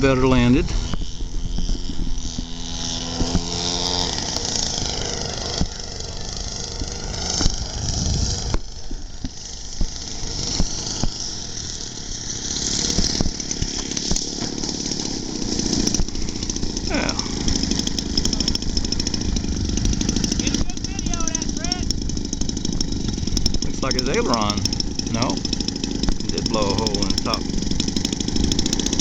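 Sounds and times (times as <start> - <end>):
model airplane engine: 0.0 - 29.0.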